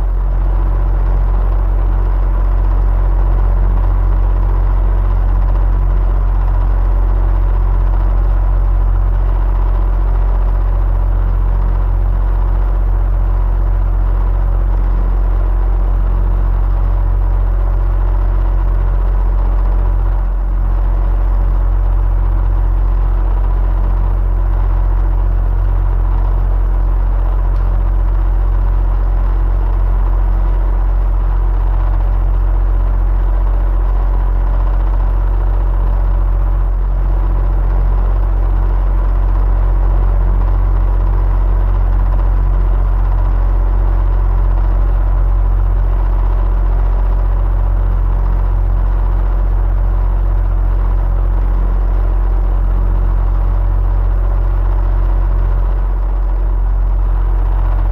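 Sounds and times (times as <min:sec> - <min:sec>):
electric fan humming: 0:00.0 - 0:48.3.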